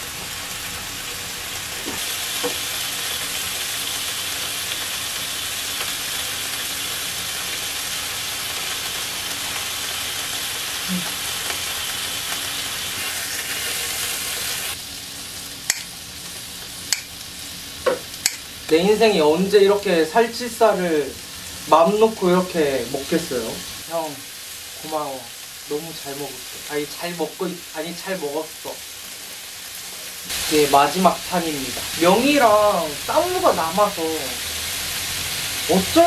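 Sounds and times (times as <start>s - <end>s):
meat sizzling on a griddle: 0.0s - 36.0s.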